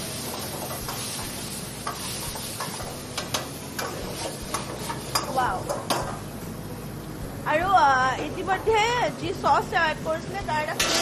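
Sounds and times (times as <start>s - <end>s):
chicken sizzling in hot oil: 0.0s - 8.0s, 8.6s - 11.0s.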